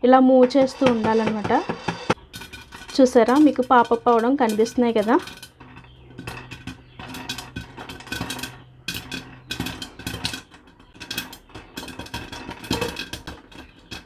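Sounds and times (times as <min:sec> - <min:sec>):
kernels rattling in shaken pot: 0:00.0 - 0:14.0
popcorn popping: 0:00.0 - 0:14.0.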